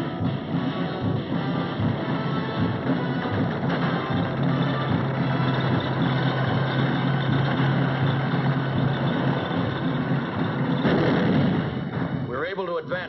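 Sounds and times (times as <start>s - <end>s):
low engine drone: 0.0s - 12.3s.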